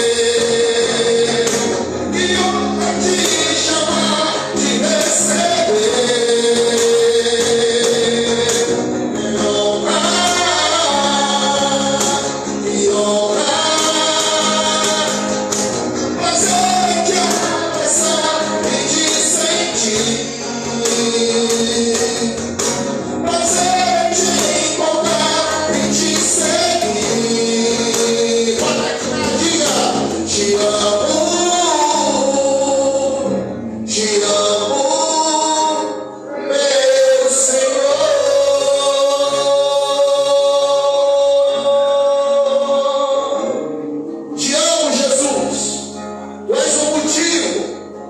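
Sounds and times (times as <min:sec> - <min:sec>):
voices singing along: 0:00.0 - 0:43.8
gospel band playing slow song: 0:00.0 - 0:48.0.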